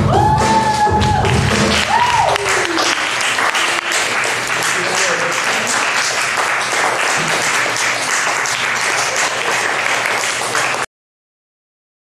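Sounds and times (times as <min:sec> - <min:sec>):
audience applause: 0:00.7 - 0:10.9.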